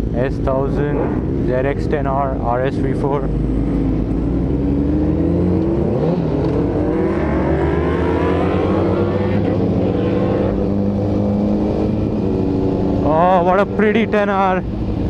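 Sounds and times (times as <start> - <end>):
motorcycle engine accelerating: 0.1 - 15.0.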